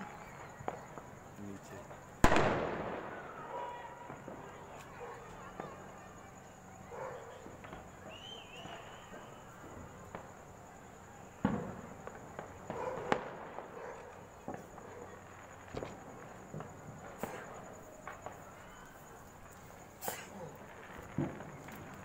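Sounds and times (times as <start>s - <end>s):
firecrackers banging: 0.0s - 22.0s.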